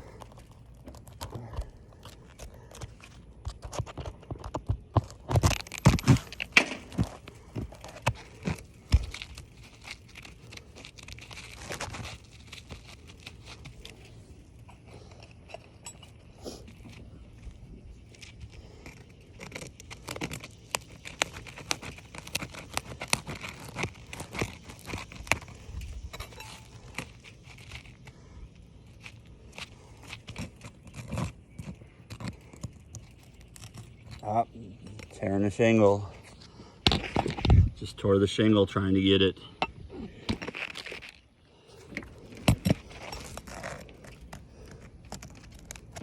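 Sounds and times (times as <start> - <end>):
roofing shingles being pried loose: 0.0 - 35.2, 40.1 - 46.0.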